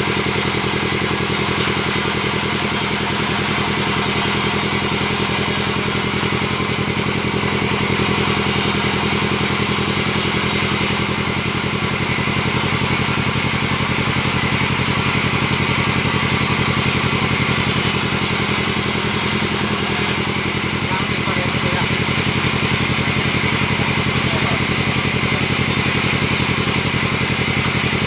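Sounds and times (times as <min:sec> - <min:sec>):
saw high hiss: 0:00.0 - 0:28.0
sawmill engine chug: 0:00.0 - 0:28.0.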